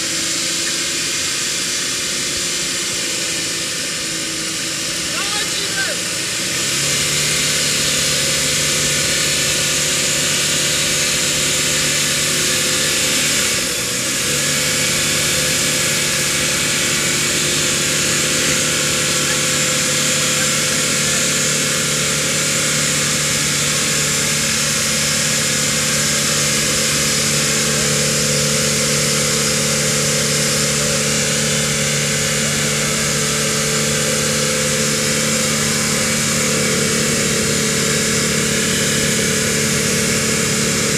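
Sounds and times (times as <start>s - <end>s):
truck engine running: 0.0s - 40.9s
winch running under load: 0.0s - 40.9s.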